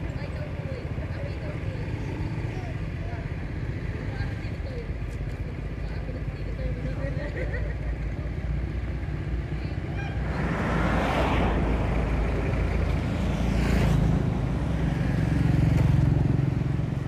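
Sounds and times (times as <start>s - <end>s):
low engine rumble: 0.0s - 17.0s
passing traffic: 0.0s - 17.0s.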